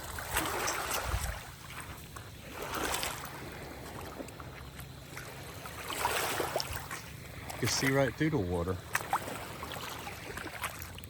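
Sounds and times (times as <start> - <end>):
waves lapping on rocks: 0.0 - 11.0
wind rumbling on microphone: 0.0 - 11.0.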